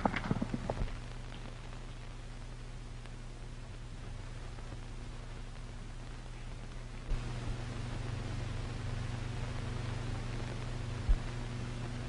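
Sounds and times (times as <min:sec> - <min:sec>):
film soundtrack hiss: 0:00.0 - 0:12.0
low hum: 0:00.0 - 0:12.0.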